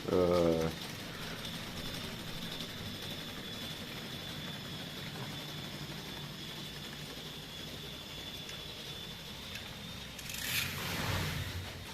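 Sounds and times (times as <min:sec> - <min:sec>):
small motor humming and whining: 0:00.0 - 0:11.9.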